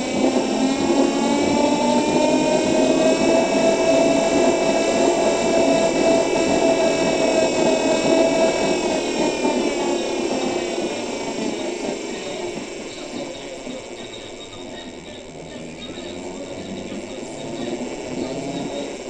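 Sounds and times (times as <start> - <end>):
bus running noise: 0.0 - 19.0
electric bus motor whining: 0.0 - 19.0.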